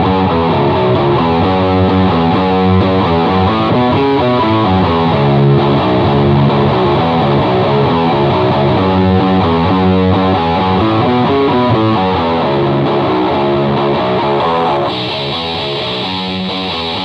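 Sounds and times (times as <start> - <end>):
distorted electric guitar riff: 0.0 - 17.0
electric bass: 0.0 - 17.0.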